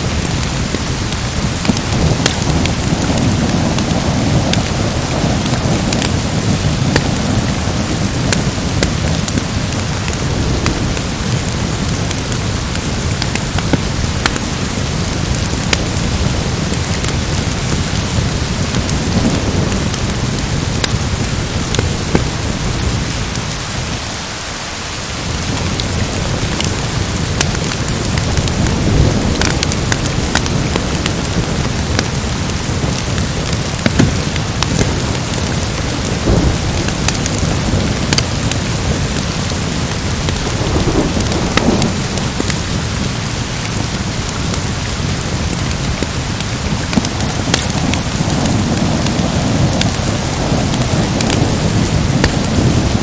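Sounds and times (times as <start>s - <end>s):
heavy rain: 0.0s - 53.0s
thunder rolling: 0.1s - 23.1s, 25.6s - 53.0s.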